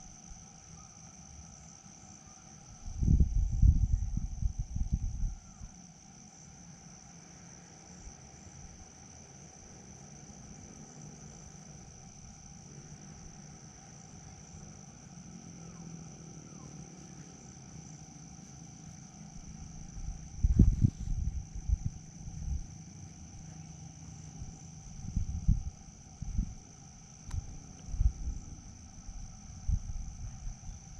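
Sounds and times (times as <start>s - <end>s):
crickets chirping chorus: 0.0s - 30.9s.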